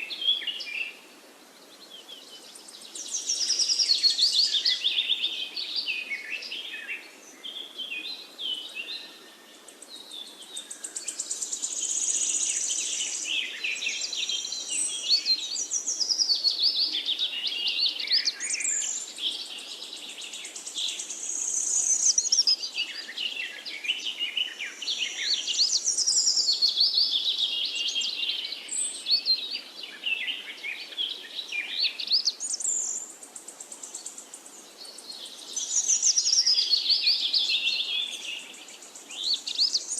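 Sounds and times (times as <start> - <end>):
birds chirping and singing: 1.8 - 39.9.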